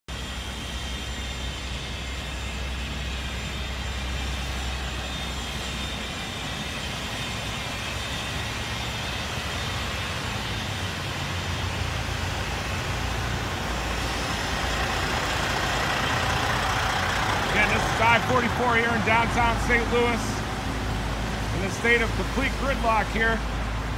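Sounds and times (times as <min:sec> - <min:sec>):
traffic noise: 0:00.1 - 0:23.9
trucks and cars idling: 0:00.1 - 0:23.9.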